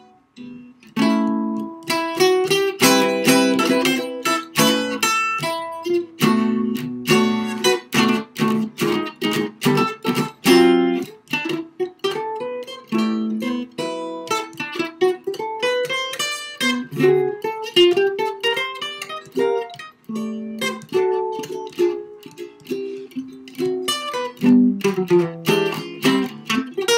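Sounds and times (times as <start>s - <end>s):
solo jazz guitar: 0.0s - 26.9s.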